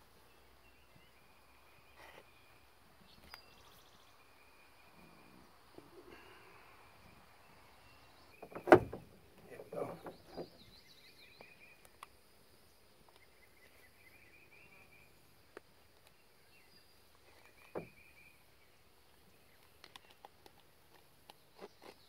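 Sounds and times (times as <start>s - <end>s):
faint chirping: 0.0s - 20.3s.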